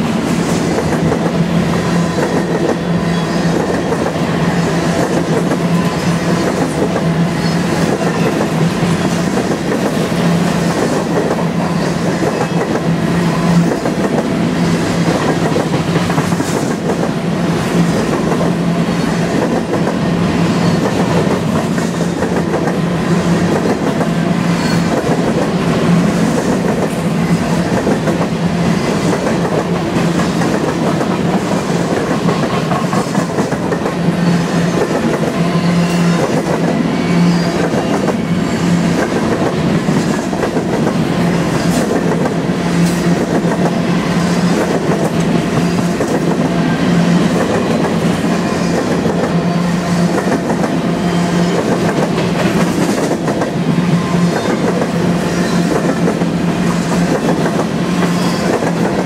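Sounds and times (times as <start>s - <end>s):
train wheels rumbling on rails: 0.0s - 59.0s
clickety-clack over rail joints: 0.2s - 59.0s.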